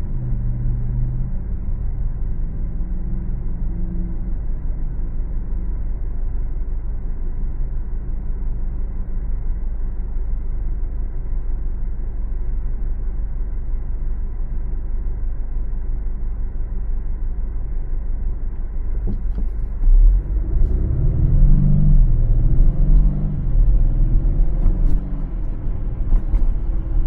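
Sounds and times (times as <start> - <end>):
car road noise: 0.0 - 27.0.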